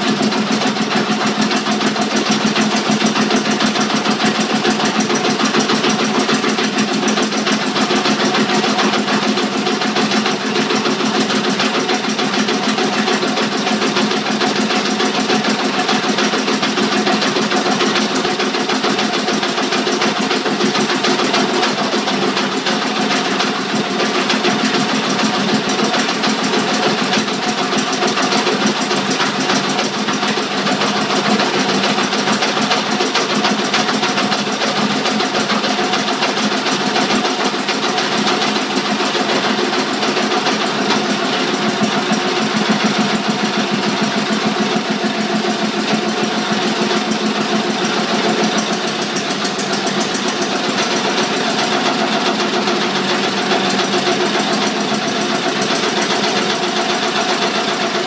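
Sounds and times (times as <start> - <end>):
diesel engine running: 0.0 - 58.0
generator head rattling and knocking: 0.1 - 58.0.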